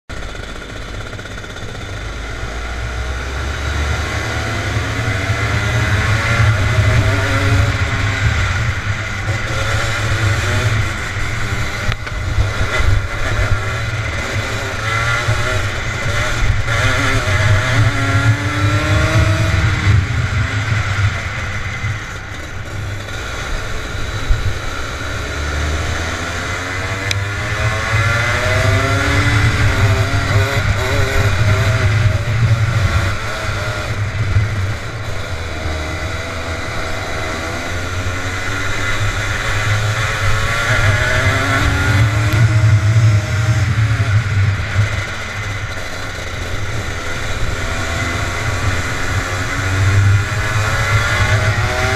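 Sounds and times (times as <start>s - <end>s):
kart engine revving: 0.1s - 51.9s.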